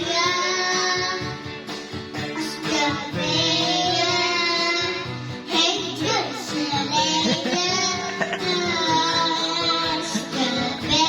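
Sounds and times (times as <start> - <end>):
child singing: 0.0 - 1.5, 2.2 - 11.0
backing music: 0.0 - 11.0.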